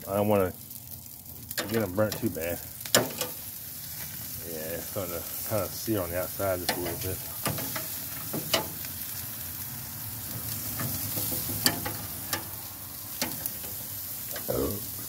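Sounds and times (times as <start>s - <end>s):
pork chops sizzling on a grill: 0.0s - 15.0s.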